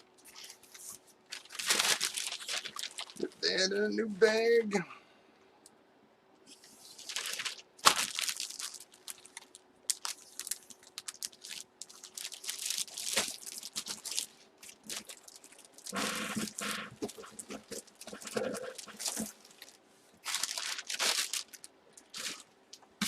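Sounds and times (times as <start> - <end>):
plastic bag crinkling: 0.2 - 3.4, 6.7 - 23.0.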